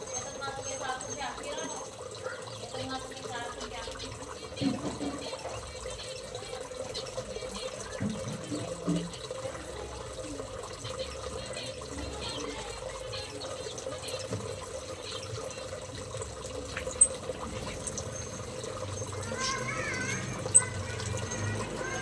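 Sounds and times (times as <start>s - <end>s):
water running: 0.0s - 22.0s.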